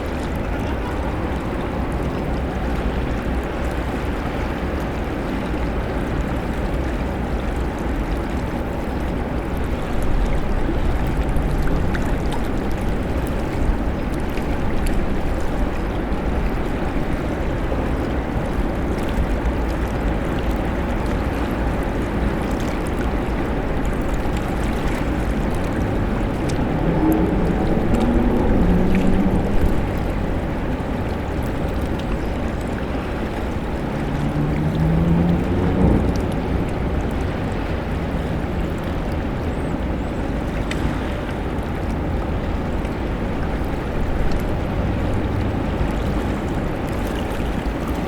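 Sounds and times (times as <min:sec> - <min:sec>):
low rushing park ambience: 0:00.0 - 0:48.0.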